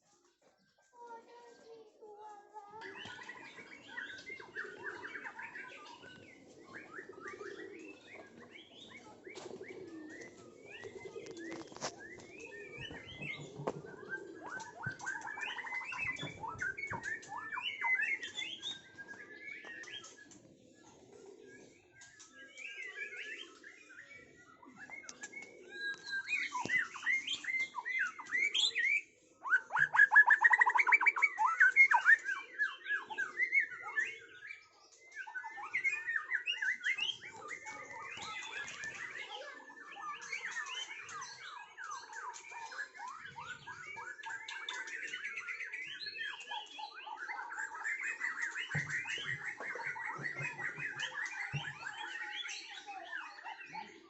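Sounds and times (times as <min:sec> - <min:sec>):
flock of birds chattering: 0:00.0 - 0:54.0.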